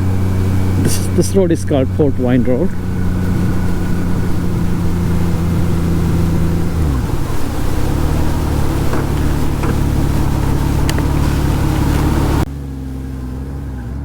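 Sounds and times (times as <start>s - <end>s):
motorcycle engine running: 0.0s - 14.0s
wind and road noise: 0.0s - 14.0s.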